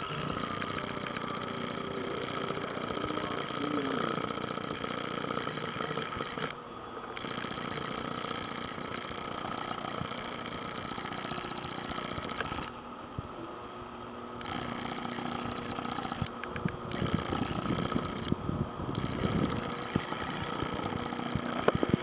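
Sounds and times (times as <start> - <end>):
pinball machines hum and buzz: 0.0 - 13.6, 14.3 - 22.0.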